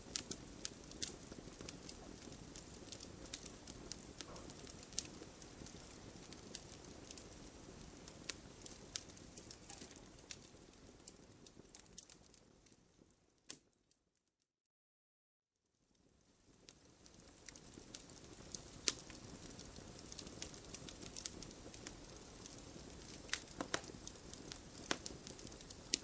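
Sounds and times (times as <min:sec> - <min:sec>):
wood fire crackling: 0:00.0 - 0:13.7, 0:15.7 - 0:26.0.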